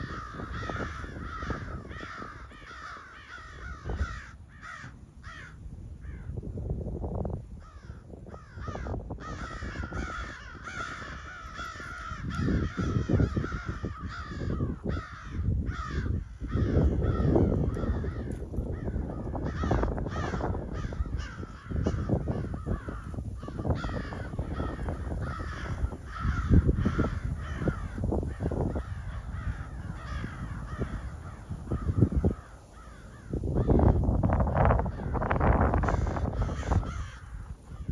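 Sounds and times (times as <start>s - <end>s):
crows cawing: 0.0s - 6.4s, 7.6s - 37.9s.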